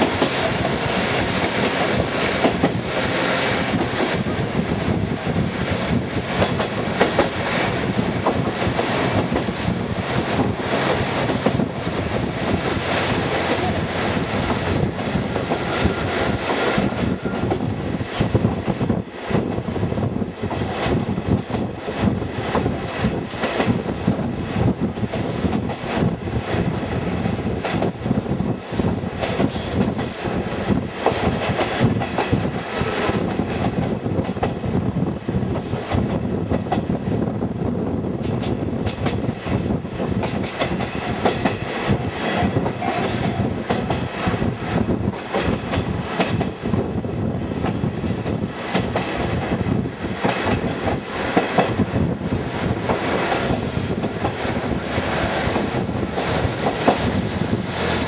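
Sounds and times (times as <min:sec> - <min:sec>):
railcar running noise: 0:00.0 - 0:58.0.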